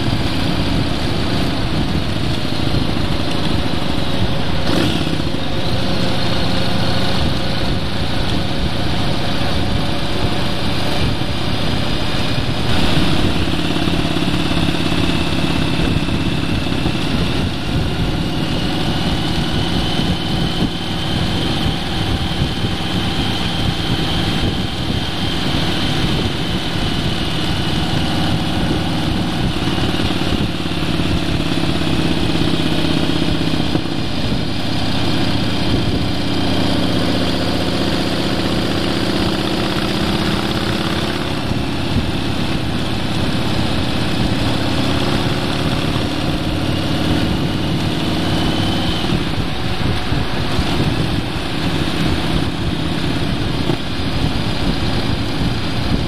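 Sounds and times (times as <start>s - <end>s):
vehicle engine cruising: 0.0s - 56.0s
wind and road noise: 0.0s - 56.0s.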